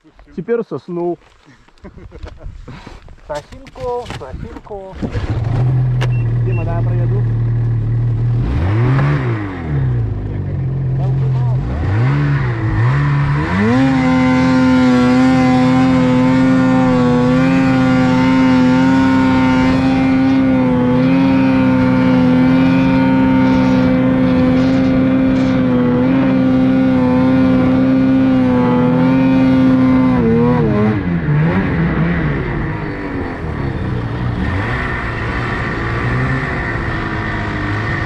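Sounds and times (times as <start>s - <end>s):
snowmobile engine revving: 5.0s - 38.0s.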